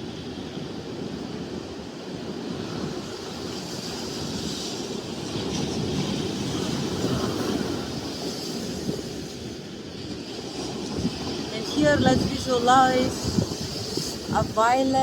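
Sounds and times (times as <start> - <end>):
ocean surf: 0.0 - 15.0
wind rumbling on microphone: 0.0 - 15.0.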